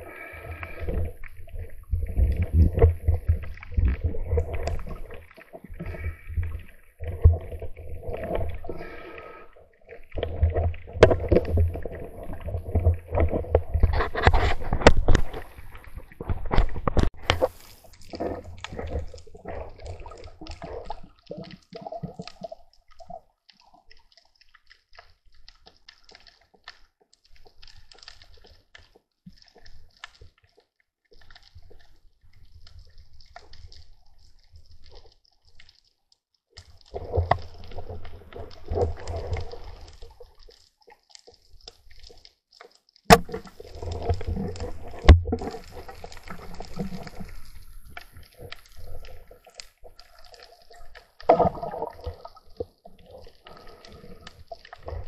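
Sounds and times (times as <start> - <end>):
faint clicks and crackles: 0.0 - 55.0
underwater gurgling and sloshing: 0.0 - 55.0.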